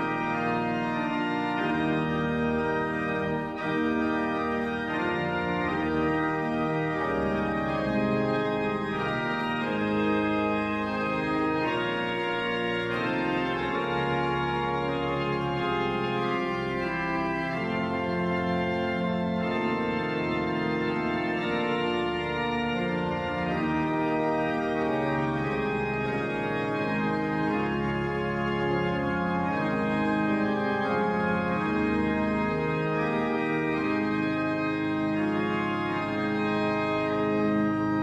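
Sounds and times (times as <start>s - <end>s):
pipe organ playing sustained chords: 0.0s - 38.0s.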